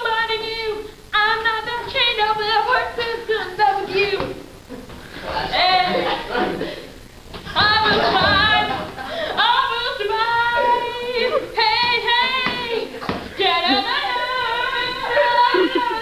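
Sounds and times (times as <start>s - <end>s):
girl singing unaccompanied: 0.0s - 4.5s, 5.5s - 6.5s, 7.5s - 16.0s.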